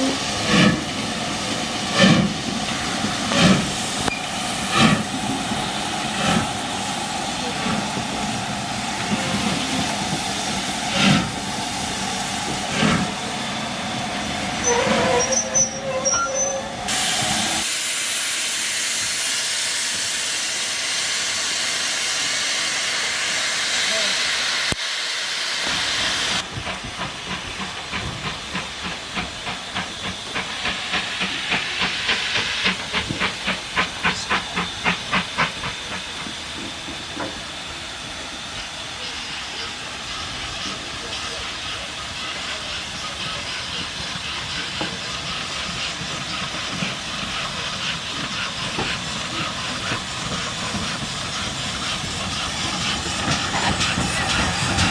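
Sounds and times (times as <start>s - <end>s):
steam hissing: 0.0s - 54.9s.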